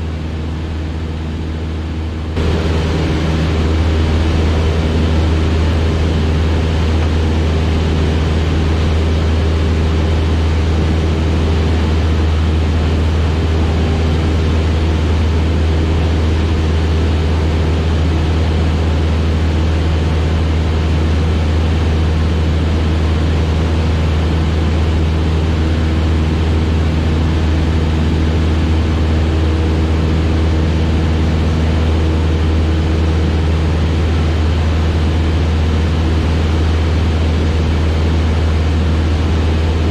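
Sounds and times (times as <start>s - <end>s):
airplane engine low hum: 0.0s - 39.9s.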